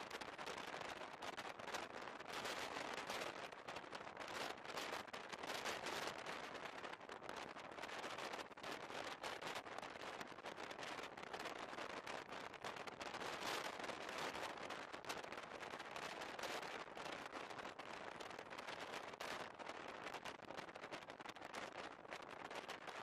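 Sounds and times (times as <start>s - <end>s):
crackle of small clicks: 0.0s - 23.0s.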